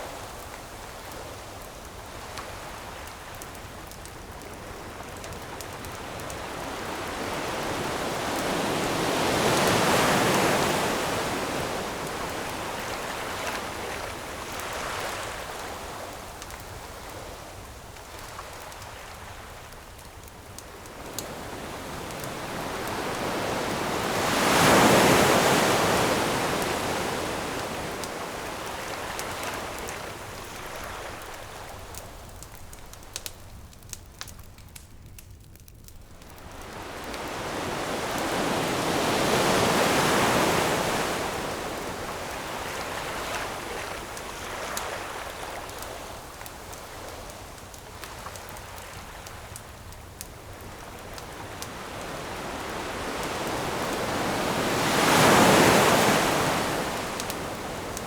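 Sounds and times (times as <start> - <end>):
ocean waves washing onto shore: 0.0 - 33.2, 36.1 - 58.0
campfire crackling: 0.0 - 58.0.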